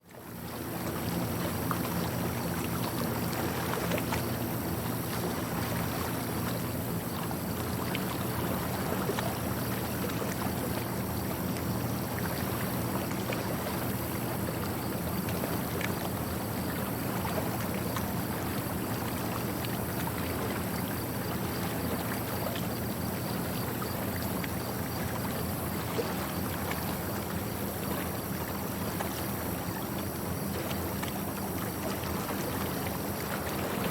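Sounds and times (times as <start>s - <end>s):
boat motor running: 0.2s - 33.9s.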